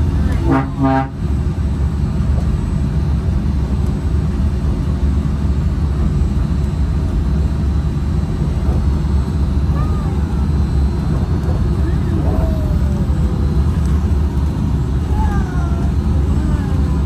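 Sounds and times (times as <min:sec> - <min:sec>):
monorail train rumble: 0:00.0 - 0:17.0.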